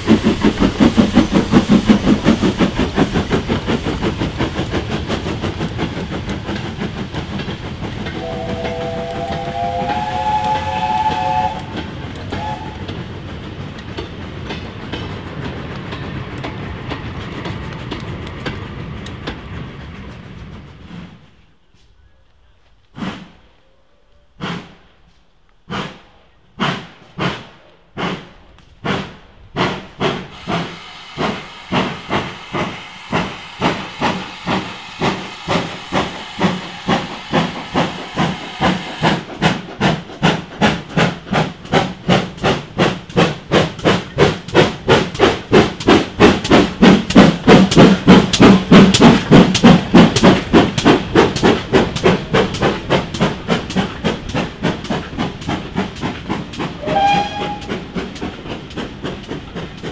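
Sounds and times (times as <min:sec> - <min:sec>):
steam hissing: 0:00.0 - 0:17.5, 0:24.4 - 0:59.9
steam locomotive exhaust beats: 0:00.0 - 0:59.9.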